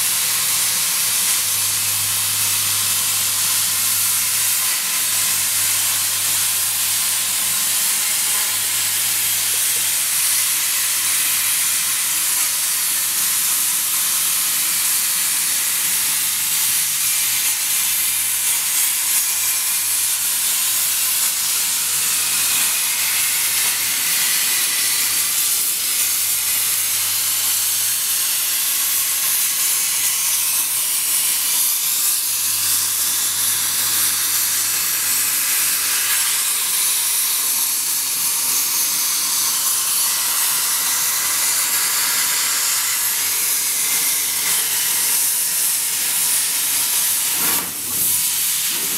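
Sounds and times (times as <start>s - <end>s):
plasma torch arc hissing: 0.0s - 48.9s.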